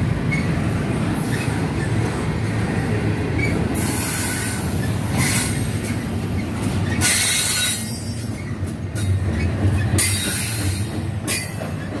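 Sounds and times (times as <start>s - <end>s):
steel wheels rumbling on rails: 0.0s - 12.0s.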